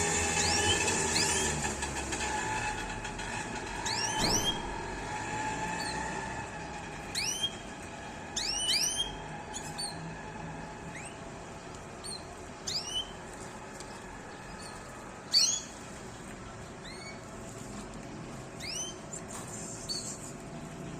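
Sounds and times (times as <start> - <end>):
canaries chirping: 0.0 - 20.9
low background hum: 0.0 - 20.9.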